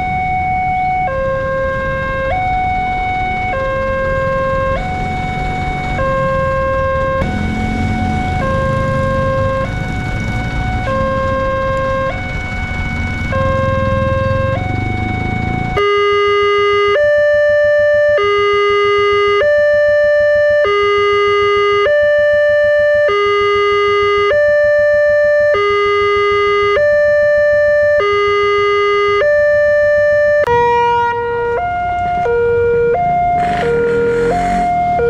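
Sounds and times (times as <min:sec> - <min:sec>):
faster two-tone crossing alarm: 0:00.0 - 0:35.0
two-tone crossing alarm: 0:00.0 - 0:35.0.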